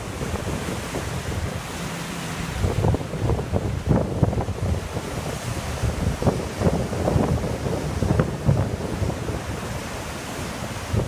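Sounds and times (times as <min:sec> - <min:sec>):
surf breaking on rocks: 0:00.0 - 0:11.0
wind buffeting microphone: 0:00.0 - 0:11.0.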